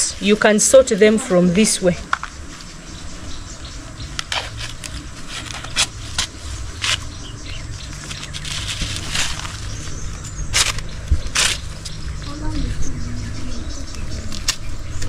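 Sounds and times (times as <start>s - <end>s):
banana fibres rustling and crackling: 0.0s - 15.0s
low steady rumble: 0.0s - 15.0s.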